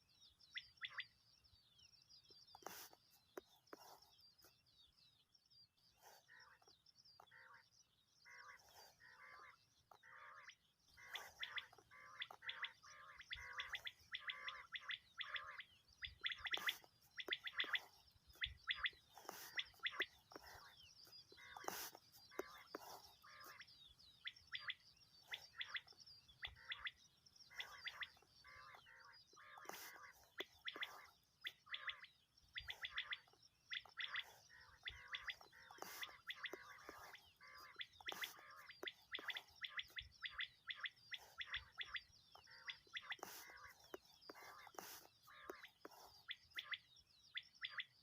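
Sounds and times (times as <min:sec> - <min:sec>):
quail chirping calls: 0:00.5 - 0:01.2, 0:02.2 - 0:04.6, 0:06.0 - 0:48.0.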